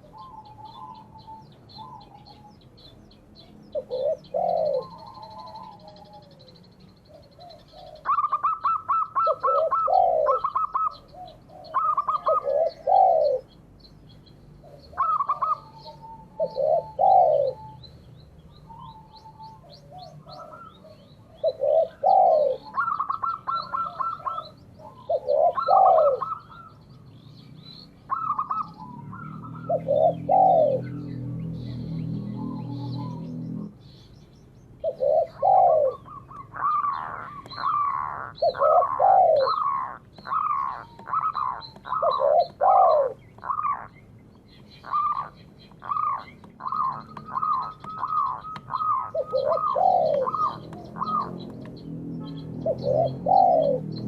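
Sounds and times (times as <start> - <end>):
doves cooing: 0.0 - 34.0, 34.8 - 54.0
small birds twittering: 0.0 - 54.0.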